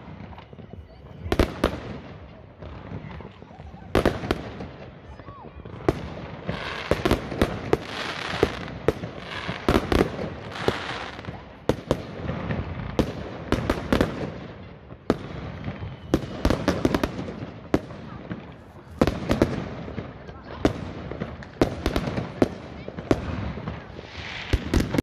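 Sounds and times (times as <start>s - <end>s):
firework bangs: 0.0s - 25.0s.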